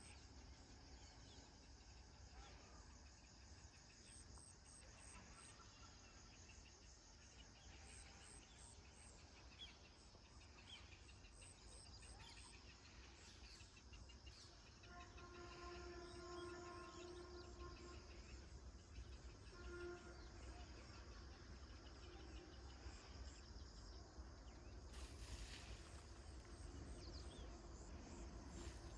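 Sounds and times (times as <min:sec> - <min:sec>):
insects chirping: 0:03.0 - 0:28.9.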